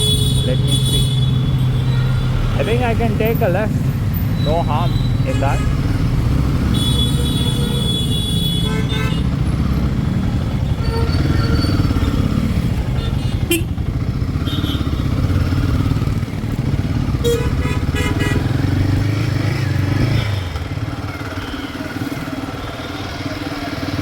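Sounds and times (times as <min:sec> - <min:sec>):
city traffic: 0:00.0 - 0:24.0
motorcycle engine running: 0:00.0 - 0:24.0.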